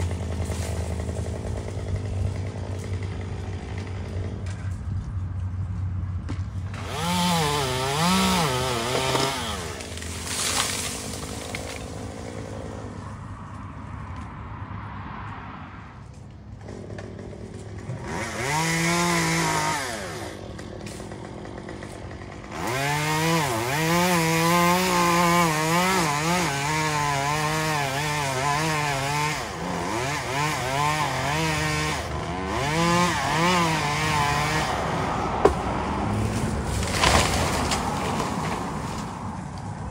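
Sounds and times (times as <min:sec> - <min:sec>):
chainsaw revving: 0:00.0 - 0:04.8, 0:06.7 - 0:13.2, 0:16.5 - 0:39.3.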